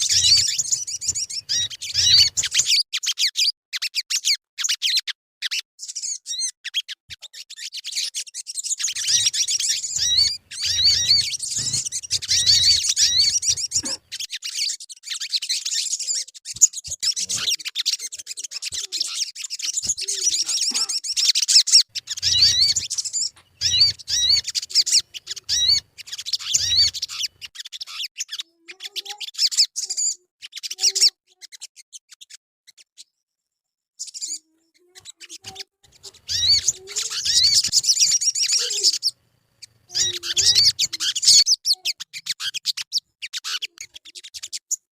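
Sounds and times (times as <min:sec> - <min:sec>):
bird chirping and trilling: 0:00.0 - 0:33.2, 0:34.0 - 0:44.9.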